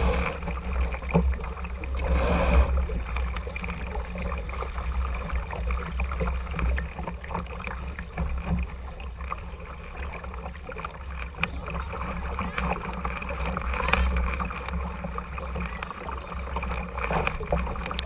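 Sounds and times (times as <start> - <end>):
water splashing against hull: 0.0 - 18.0.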